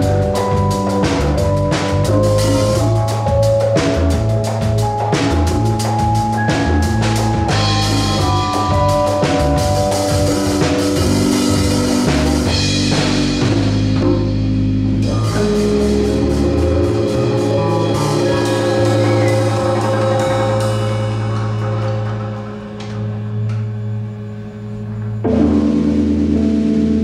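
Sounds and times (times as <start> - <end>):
congas: 0.0 - 14.4, 15.0 - 24.0
drum kit: 0.0 - 27.0
electric bass: 0.0 - 27.0
keyboard chords: 0.0 - 27.0.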